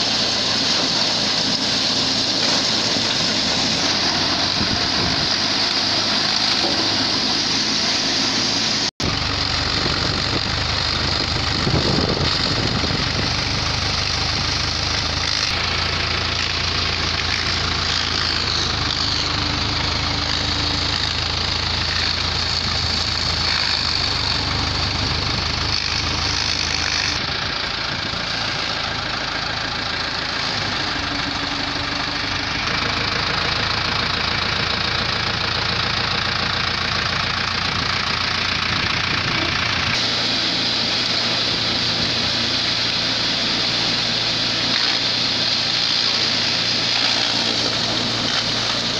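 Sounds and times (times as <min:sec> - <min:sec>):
mill shredding dry stalks: 0:00.0 - 0:48.9
tractor engine under load: 0:00.0 - 0:48.9.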